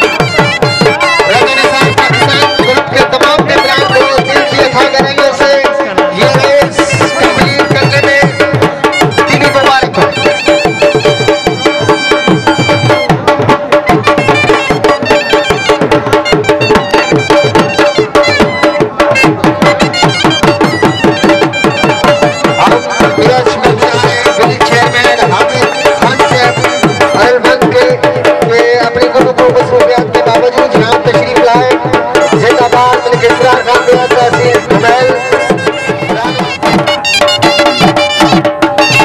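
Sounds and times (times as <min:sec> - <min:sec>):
drums beating fast rhythm: 0:00.0 - 0:39.0.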